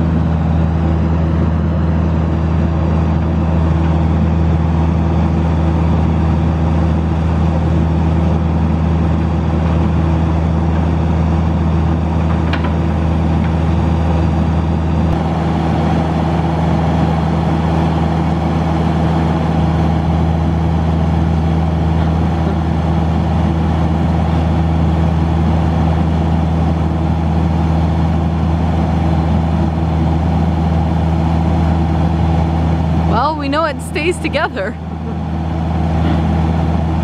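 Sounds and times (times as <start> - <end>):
excavator diesel engine humming: 0.0 - 37.0.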